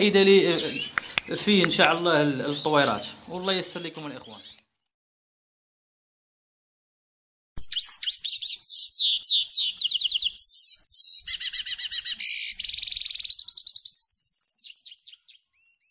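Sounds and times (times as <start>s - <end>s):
canary singing trills: 0.0s - 4.7s, 7.6s - 15.9s.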